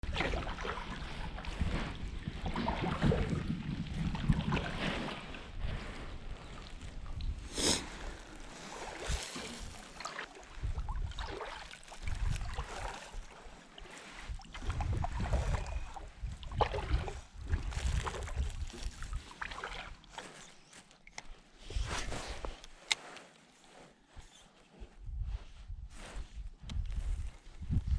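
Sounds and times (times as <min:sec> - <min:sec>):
paddle strokes splashing water: 0:00.0 - 0:24.0.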